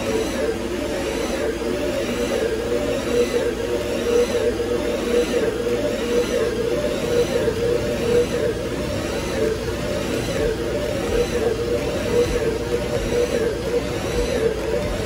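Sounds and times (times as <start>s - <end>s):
faint machine whine: 0.0s - 15.0s
lathe mechanical whir: 0.0s - 15.0s.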